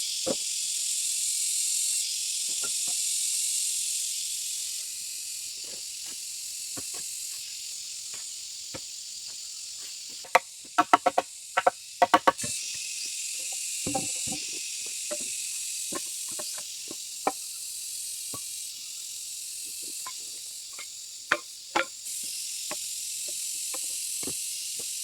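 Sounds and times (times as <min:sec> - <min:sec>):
high-pitched insect buzz: 0:00.0 - 0:25.0.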